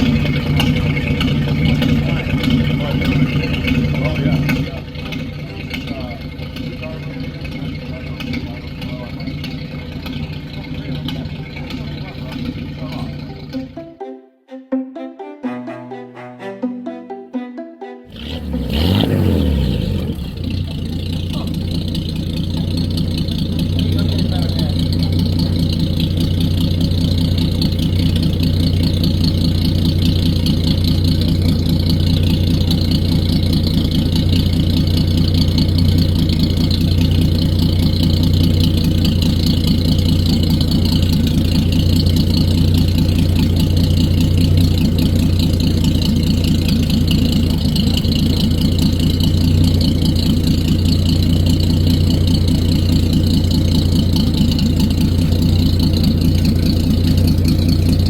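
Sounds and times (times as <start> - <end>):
boat engine idling: 0.0 - 13.8, 18.1 - 58.0.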